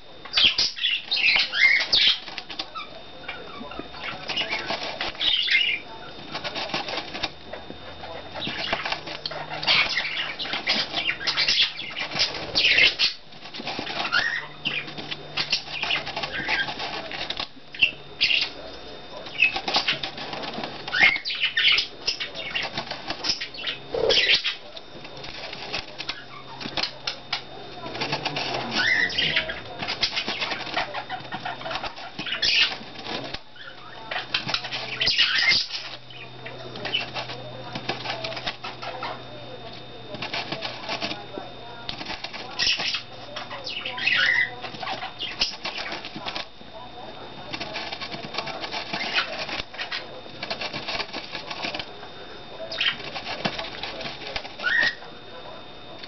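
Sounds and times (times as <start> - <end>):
bird wings flapping: 4.0 - 7.4, 8.4 - 18.4, 19.2 - 39.2, 40.1 - 41.3, 41.9 - 46.6, 47.4 - 52.0, 52.6 - 55.1.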